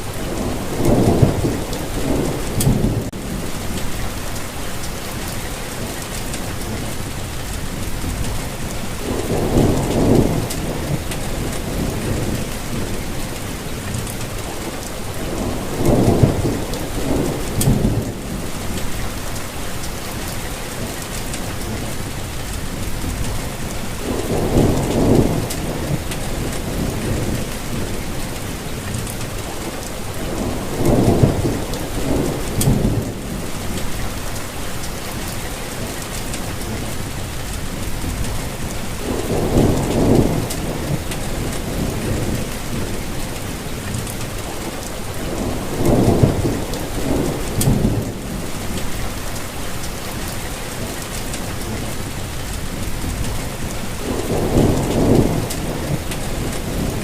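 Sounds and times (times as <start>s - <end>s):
thunder rumbling: 0.0s - 5.3s, 7.8s - 20.3s, 22.7s - 35.3s, 36.5s - 50.5s, 51.5s - 57.0s
rain hissing: 0.0s - 57.0s.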